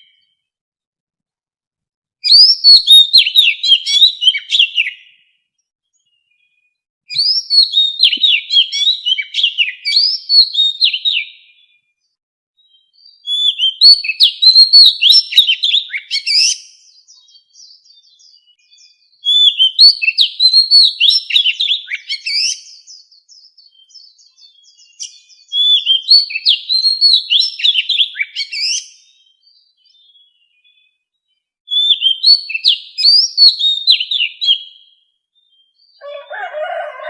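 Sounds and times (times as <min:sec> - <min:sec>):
bird singing whistled notes: 0:00.0 - 0:00.5, 0:02.2 - 0:36.3.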